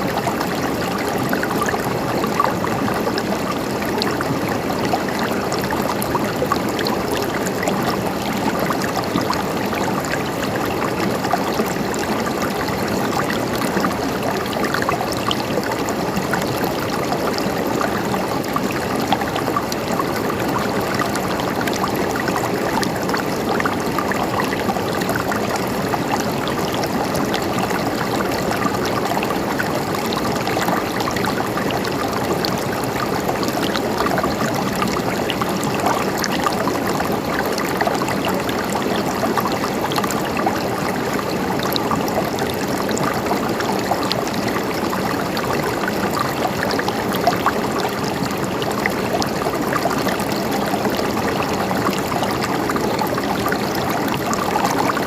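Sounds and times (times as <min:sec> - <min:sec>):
stream water flowing and gurgling: 0:00.0 - 0:55.0.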